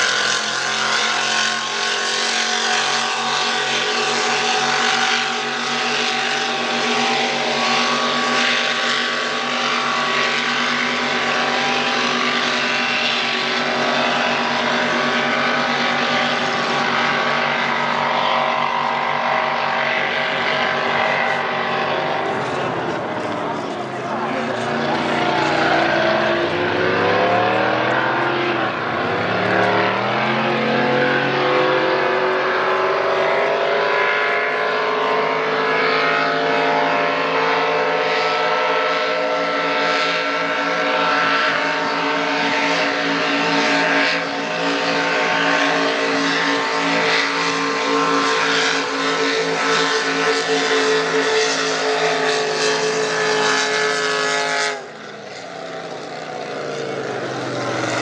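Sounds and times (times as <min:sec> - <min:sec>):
racing boat engines droning: 0:00.0 - 0:58.0.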